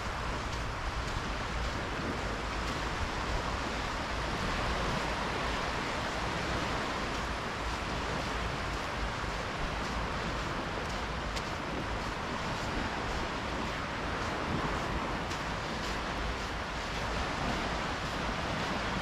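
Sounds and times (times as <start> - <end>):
small waves on sandy shore: 0.0 - 19.0
wind rumble on microphone: 0.0 - 19.0.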